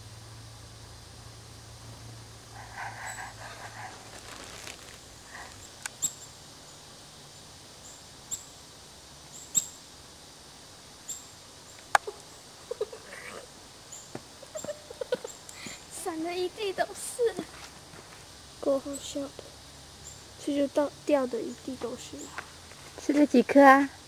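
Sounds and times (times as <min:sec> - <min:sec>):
songbirds chirping: 0:02.4 - 0:23.8.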